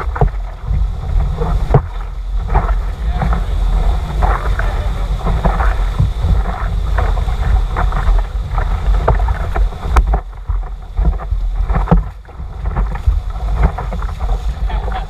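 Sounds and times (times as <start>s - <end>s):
paddle strokes splashing: 0.0s - 15.0s
rushing whitewater: 0.0s - 15.0s
wind buffeting microphone: 0.0s - 15.0s.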